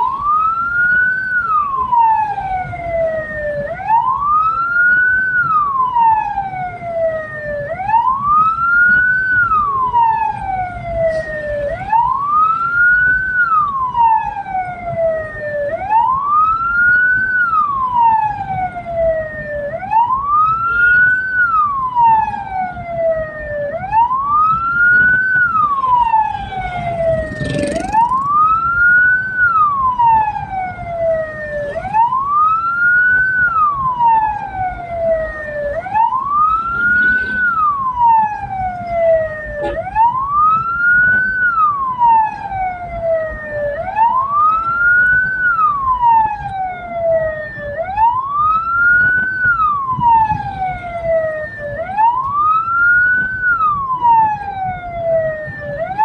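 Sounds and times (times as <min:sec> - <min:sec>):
electronic wail siren: 0:00.0 - 0:56.0
vehicle rumble: 0:00.0 - 0:56.0.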